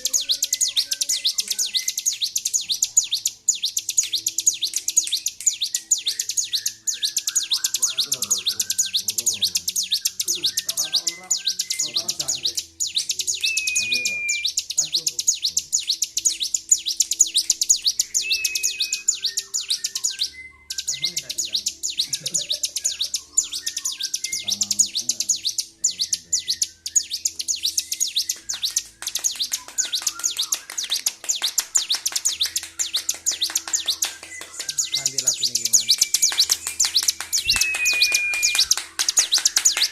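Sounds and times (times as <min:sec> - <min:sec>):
bird singing rapid chattering notes: 0:00.0 - 0:39.9.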